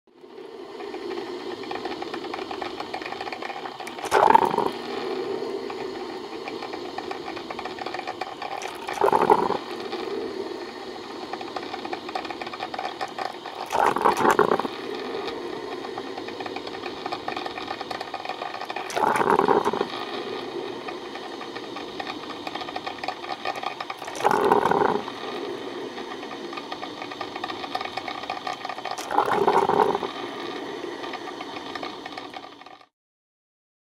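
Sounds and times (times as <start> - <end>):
coffee maker rattling hum: 0.2 - 32.9.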